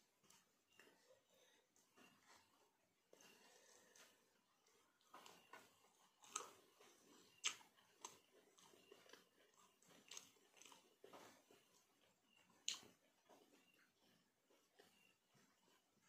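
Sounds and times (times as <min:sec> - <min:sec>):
chewing with lip smacks: 0:00.2 - 0:16.0.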